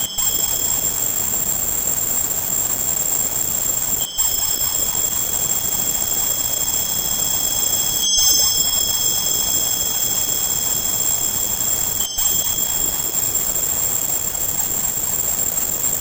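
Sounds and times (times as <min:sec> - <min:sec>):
steady hiss: 0:00.0 - 0:16.0
thin high steady tones: 0:00.0 - 0:16.0.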